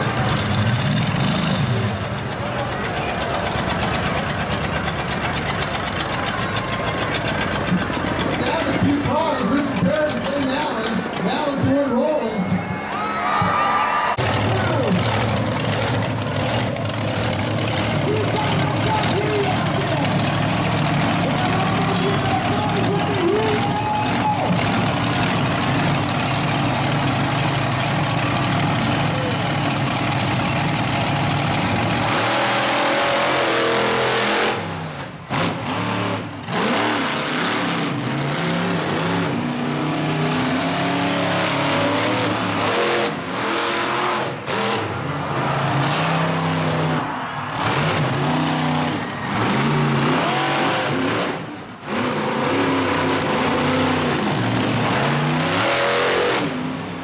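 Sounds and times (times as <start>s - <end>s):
monster truck engine revving: 0.0s - 12.0s, 14.1s - 57.0s.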